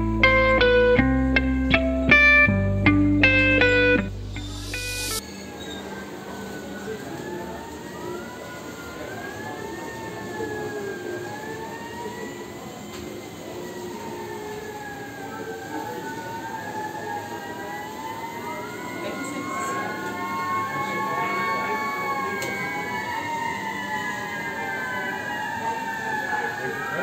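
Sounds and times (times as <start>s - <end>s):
sirens wailing: 0.0s - 5.2s, 5.8s - 27.0s.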